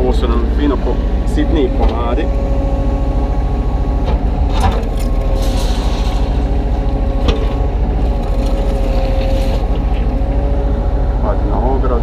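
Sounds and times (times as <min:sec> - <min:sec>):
excavator diesel engine running: 0:00.0 - 0:12.0
hydraulic whine: 0:00.2 - 0:12.0.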